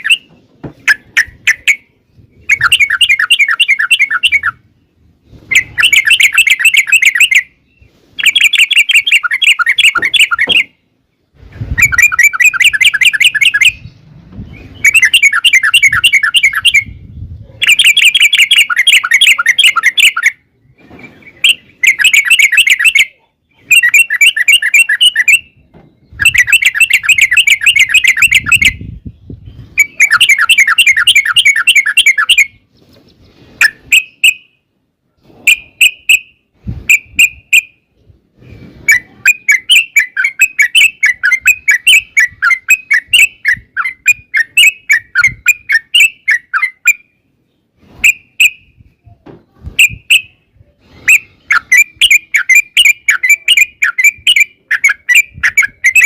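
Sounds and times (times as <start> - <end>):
bird singing rolling song: 0.0 - 34.6, 35.5 - 56.0.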